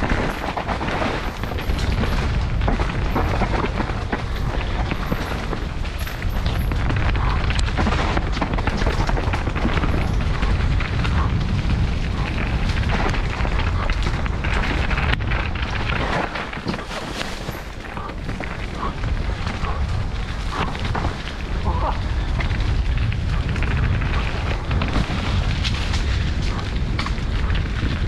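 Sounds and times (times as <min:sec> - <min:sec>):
bike tyres clicking and knocking: 0:00.0 - 0:28.0
wind rushing on microphone: 0:00.0 - 0:28.0.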